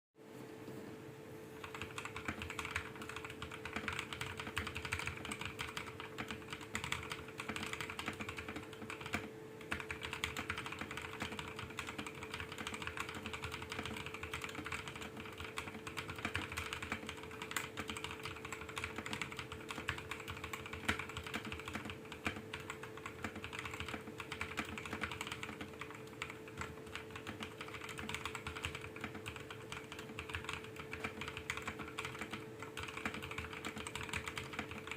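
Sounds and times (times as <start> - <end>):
fast typing on mechanical keyboard: 1.6 - 34.9.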